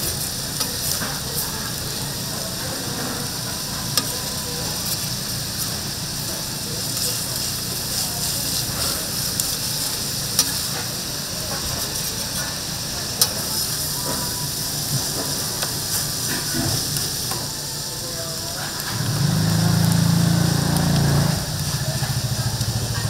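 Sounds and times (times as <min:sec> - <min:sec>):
meat patties sizzling: 0:00.0 - 0:23.0.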